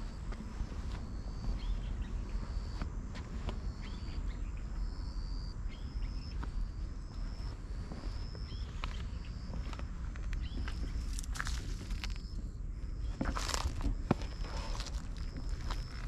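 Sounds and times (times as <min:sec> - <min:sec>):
footsteps on asphalt: 0:00.0 - 0:04.9, 0:06.3 - 0:16.0
steady low rumble: 0:00.0 - 0:16.0.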